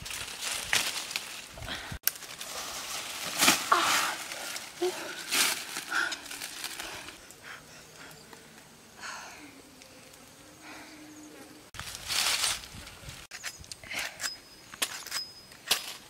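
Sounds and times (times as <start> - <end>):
leaves and twigs rustling: 0.0 - 11.0, 11.6 - 16.0.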